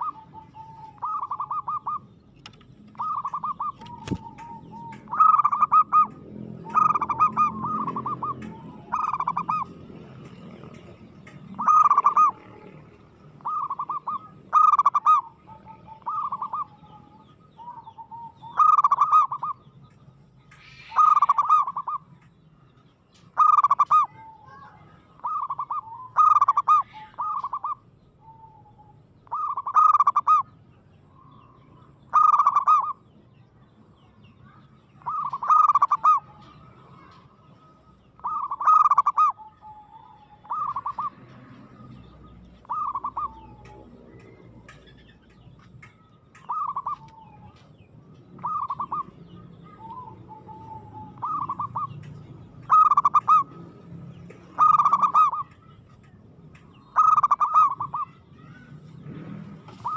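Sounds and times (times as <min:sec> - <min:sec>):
dove cooing: 0:00.0 - 0:19.6, 0:20.6 - 0:22.1, 0:23.3 - 0:30.5, 0:32.1 - 0:33.0, 0:35.0 - 0:47.6, 0:48.3 - 0:55.8, 0:56.8 - 0:58.7, 0:59.6 - 0:59.9.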